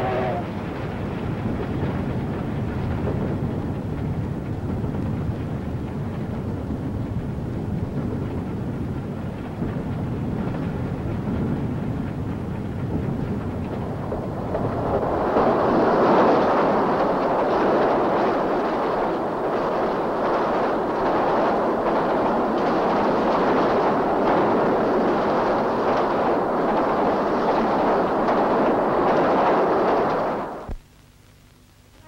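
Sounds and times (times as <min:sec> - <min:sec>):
steam locomotive running at speed: 0:00.0 - 0:30.8.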